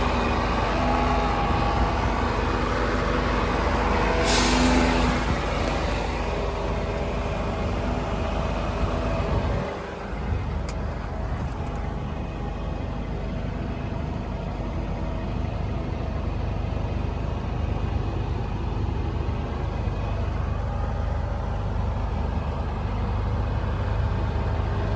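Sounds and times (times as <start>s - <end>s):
truck diesel engine running: 0.0s - 24.9s.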